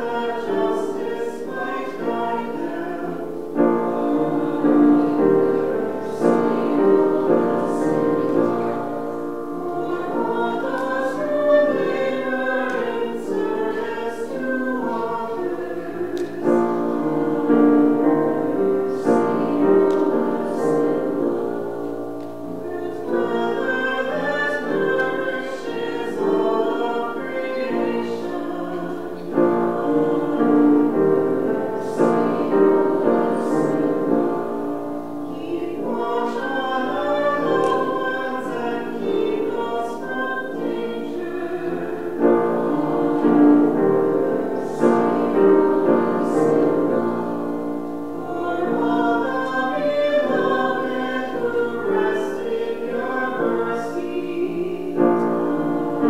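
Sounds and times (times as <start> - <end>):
grand piano accompaniment: 0.0 - 56.0
small group singing: 0.0 - 56.0.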